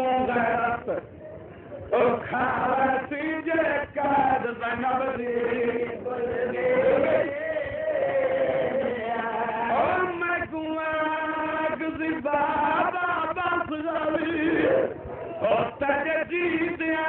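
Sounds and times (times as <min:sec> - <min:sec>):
man chanting melodically: 0:02.0 - 0:17.0.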